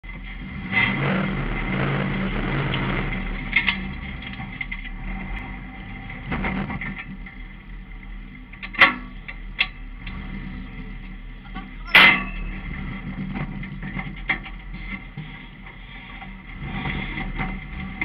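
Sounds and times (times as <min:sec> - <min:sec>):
off-road vehicle engine under throttle: 0:00.0 - 0:18.0.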